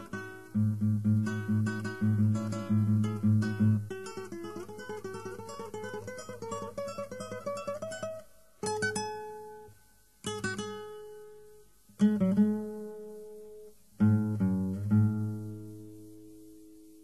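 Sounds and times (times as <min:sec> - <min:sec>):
picked guitar notes: 0:00.0 - 0:16.9.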